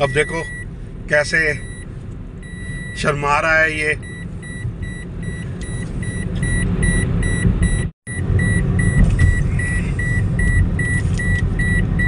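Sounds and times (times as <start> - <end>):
dashboard warning beeps: 0.0 - 0.7, 1.3 - 12.0
car road and engine rumble: 0.0 - 12.0.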